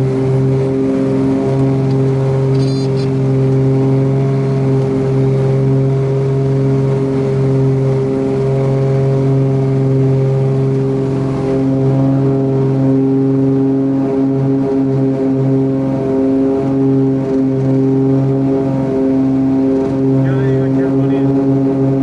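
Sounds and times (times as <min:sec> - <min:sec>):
propeller airplane engine drone: 0:00.0 - 0:22.0.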